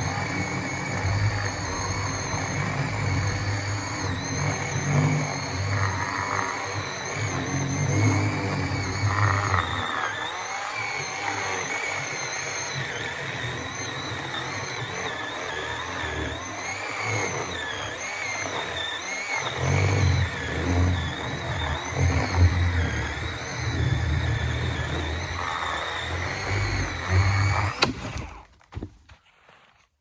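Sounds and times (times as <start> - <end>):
chainsaw cutting log: 0.0 - 29.8.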